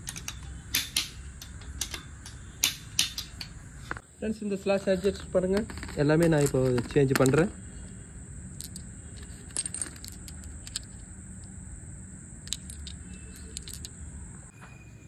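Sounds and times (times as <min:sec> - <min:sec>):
metal parts clinking: 0:00.0 - 0:04.0, 0:04.8 - 0:11.6, 0:12.4 - 0:14.1.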